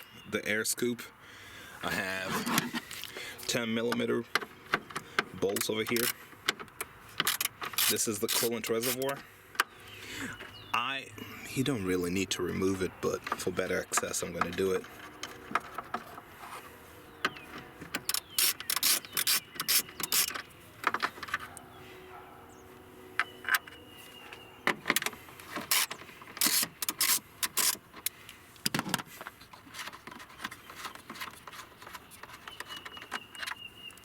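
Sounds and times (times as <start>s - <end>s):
hand tools clicking and rattling: 2.2s - 10.6s, 12.1s - 22.4s, 23.1s - 34.0s.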